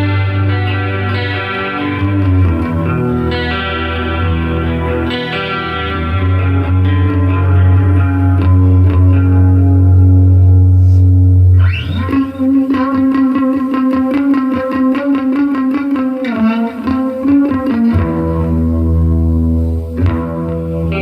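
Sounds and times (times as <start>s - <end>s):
distorted electric guitar: 0.0s - 21.0s.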